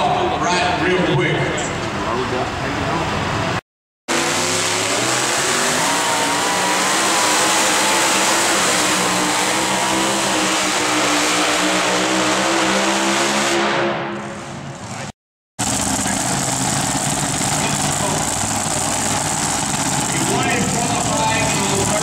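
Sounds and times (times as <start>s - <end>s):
truck engine at full throttle: 1.5s - 22.0s.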